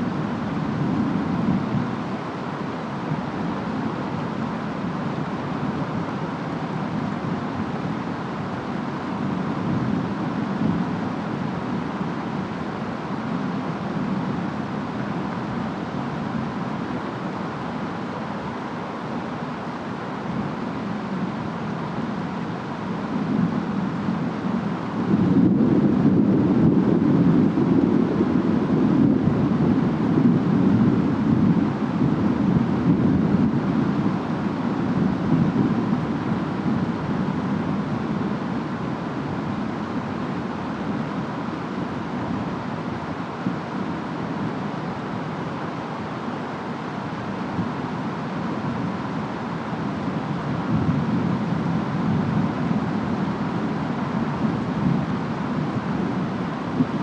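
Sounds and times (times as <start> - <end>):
low storm rumble: 0.0 - 57.0
rain: 0.0 - 57.0
wind: 0.0 - 57.0.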